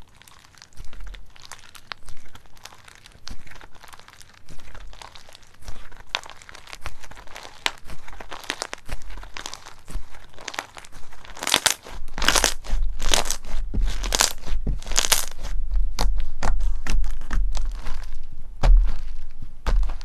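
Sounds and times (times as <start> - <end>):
crunchy slime crackling: 0.0 - 20.0.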